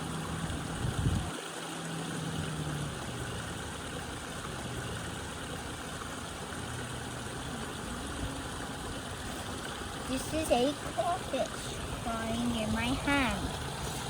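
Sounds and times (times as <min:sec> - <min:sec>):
flowing river water: 0:00.0 - 0:14.0.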